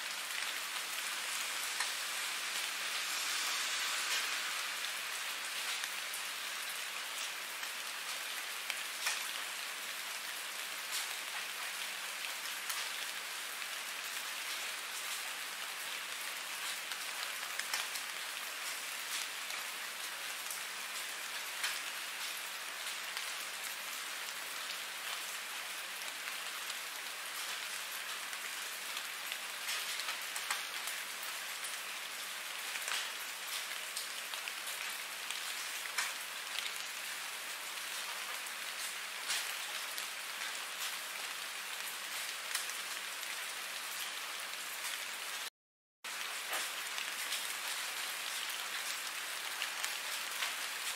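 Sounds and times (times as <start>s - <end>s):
rain hiss: 0.0s - 45.5s, 46.1s - 50.9s.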